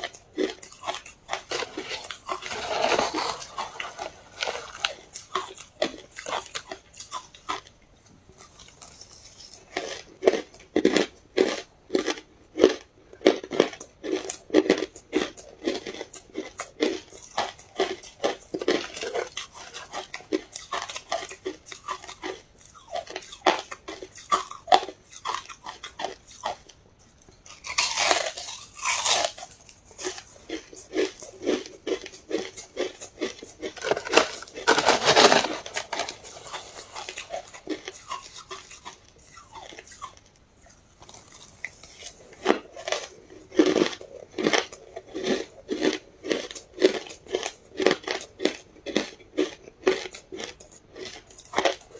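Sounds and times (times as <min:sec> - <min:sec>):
chewing ice crunches: 0:00.0 - 0:51.9.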